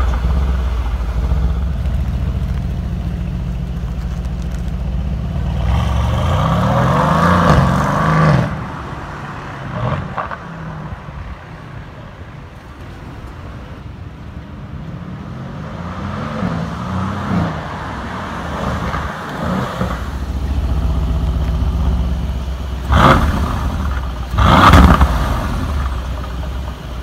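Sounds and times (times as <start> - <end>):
car engine revving and idling: 0.0 - 11.3, 12.6 - 27.0.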